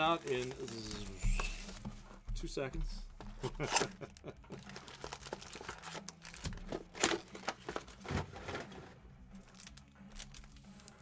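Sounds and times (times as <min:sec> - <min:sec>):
foil packs crinkling and rustling: 0:00.0 - 0:01.8, 0:03.5 - 0:11.0.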